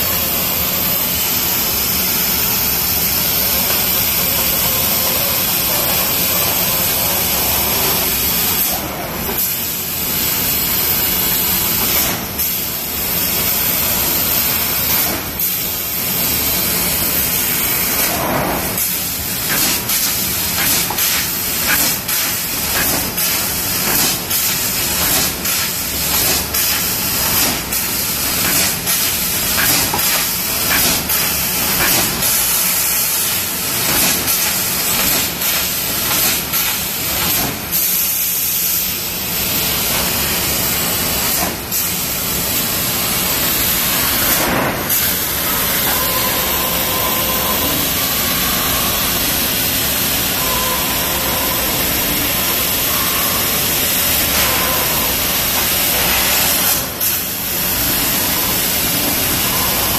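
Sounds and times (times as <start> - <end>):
laser cutter gas jet hiss: 0.0 - 59.9.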